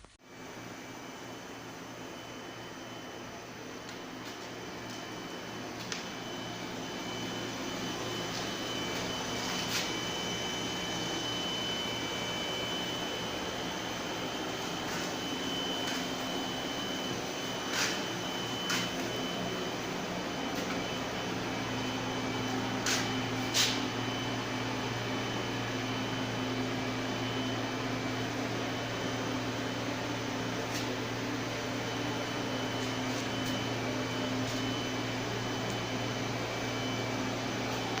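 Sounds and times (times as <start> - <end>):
motor humming and hissing: 4.1 - 38.0.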